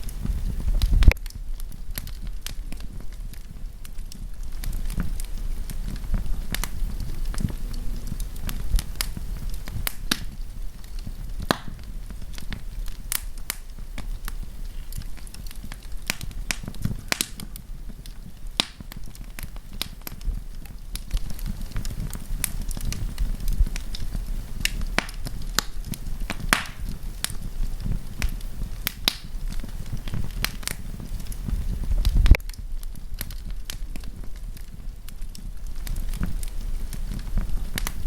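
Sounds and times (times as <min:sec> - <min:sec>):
campfire crackling: 0:00.0 - 0:38.0
fire pops and snaps: 0:00.0 - 0:38.0
low rumble of flames: 0:00.0 - 0:38.0.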